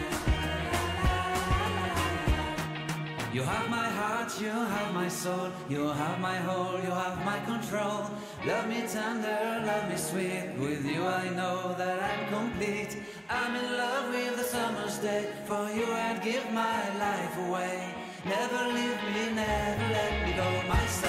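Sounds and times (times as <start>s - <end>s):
pop music with vocal harmonies: 0.0s - 21.0s.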